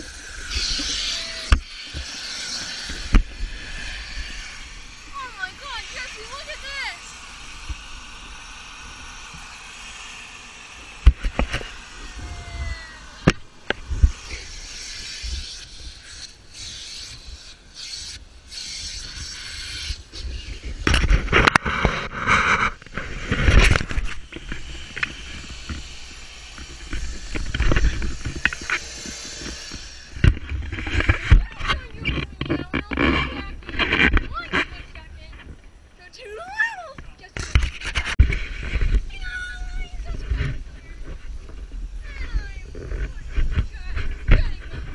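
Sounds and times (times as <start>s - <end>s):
rubbing and scraping: 0.0s - 36.2s, 37.0s - 44.9s.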